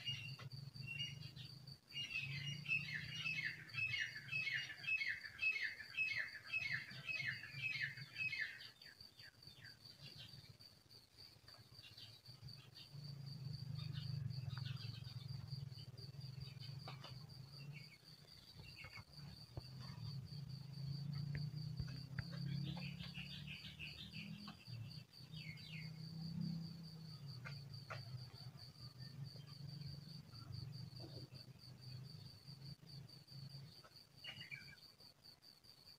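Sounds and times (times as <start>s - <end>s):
bird chirps: 0.0s - 32.4s, 33.5s - 35.0s
insects trilling: 0.0s - 35.9s.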